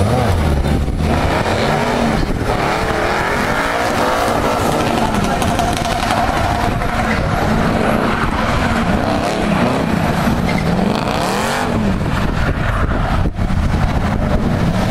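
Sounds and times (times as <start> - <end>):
car engine revving: 0.0 - 14.9
spinning tyres rushing: 0.0 - 14.9.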